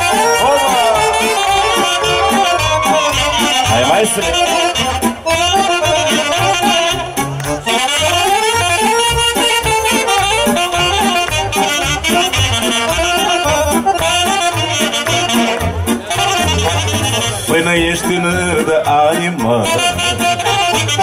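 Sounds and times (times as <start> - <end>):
saxophones: 0.0 - 18.0, 19.4 - 21.0
accordion: 0.0 - 21.0
steady beat: 0.0 - 21.0.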